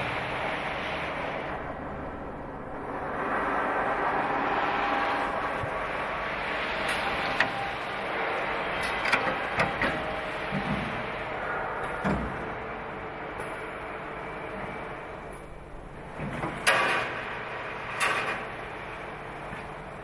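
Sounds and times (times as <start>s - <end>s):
workshop machinery running: 0.0s - 20.0s.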